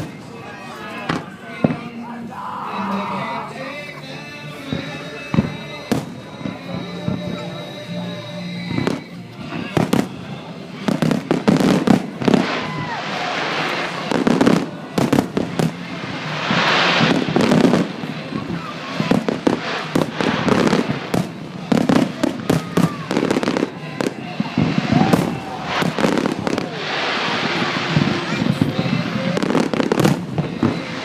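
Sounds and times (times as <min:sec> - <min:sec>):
fireworks bangs: 0:00.0 - 0:02.0, 0:04.5 - 0:31.0
fireworks hissing crackle: 0:00.0 - 0:31.0.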